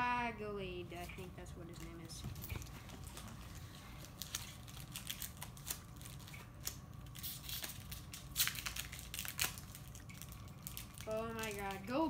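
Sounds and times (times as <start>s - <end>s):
trading cards snapping and rustling: 1.7s - 11.9s.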